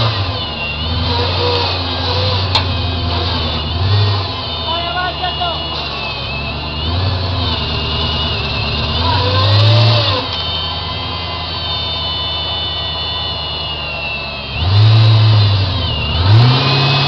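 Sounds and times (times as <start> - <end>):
buggy engine revving: 0.0 - 17.0
high whine: 0.0 - 17.0.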